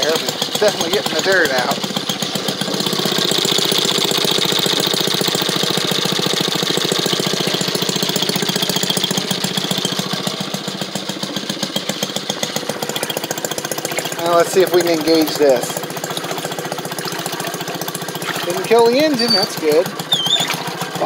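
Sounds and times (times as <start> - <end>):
two-stroke engine puttering: 0.0 - 21.0.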